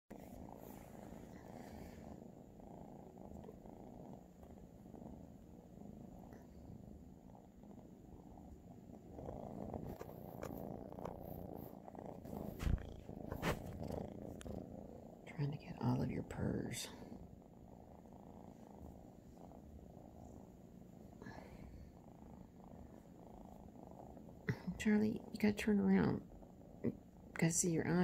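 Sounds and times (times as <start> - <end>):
kittens purring: 0.1 - 28.0.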